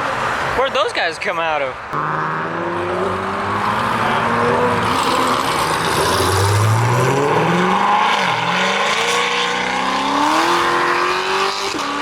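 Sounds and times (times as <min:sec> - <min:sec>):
sports car engine accelerating: 0:02.0 - 0:12.0.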